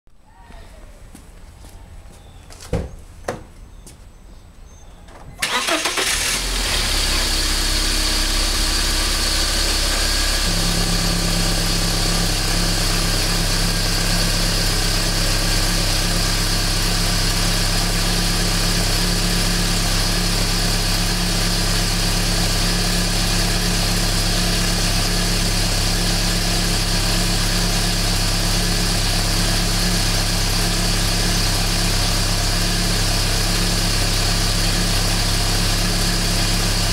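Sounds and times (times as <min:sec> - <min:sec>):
car engine idling: 0:05.4 - 0:36.9.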